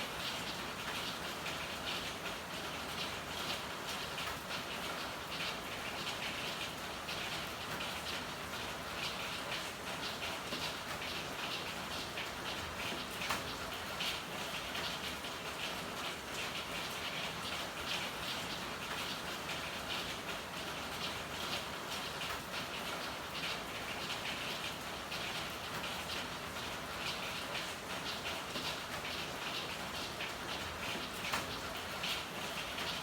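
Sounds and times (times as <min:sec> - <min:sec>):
rain on hard surfaces: 0:00.0 - 0:33.0.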